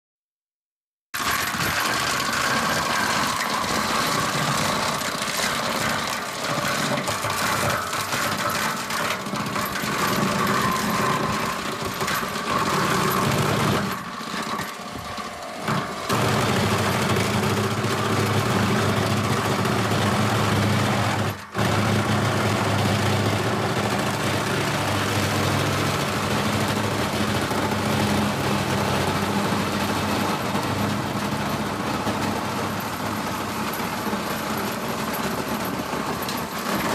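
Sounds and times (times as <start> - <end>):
rocks clattering in a crusher: 1.2 - 36.9
tractor engine: 1.2 - 36.9.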